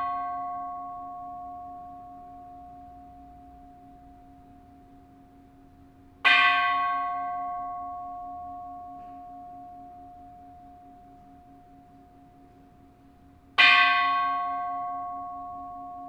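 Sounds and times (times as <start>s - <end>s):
temple bell ringing: 0.0s - 5.3s, 6.2s - 12.9s, 13.6s - 16.0s.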